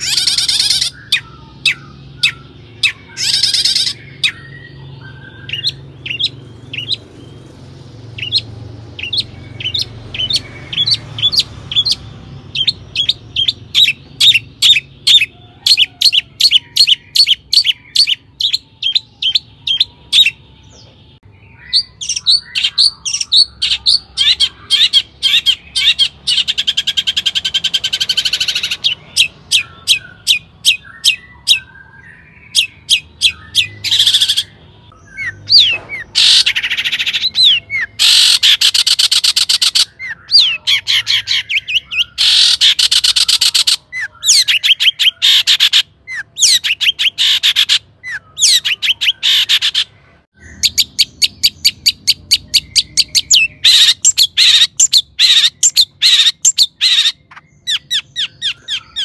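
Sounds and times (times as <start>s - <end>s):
shrike singing sharp repeated notes: 0.0s - 59.0s.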